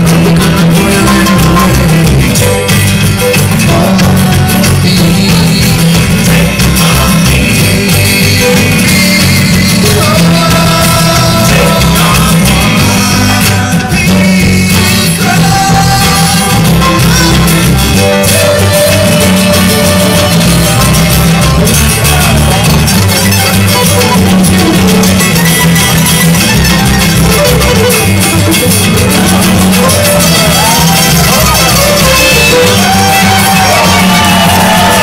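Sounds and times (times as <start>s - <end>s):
people singing: 0.0s - 25.9s, 26.9s - 35.0s
banjo: 0.0s - 35.0s
bluegrass band playing: 0.0s - 35.0s.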